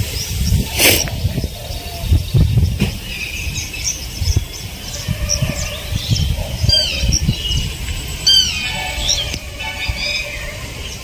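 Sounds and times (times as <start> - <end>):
birds chirping: 0.0 - 11.0
low rumbles on microphone: 0.0 - 11.0.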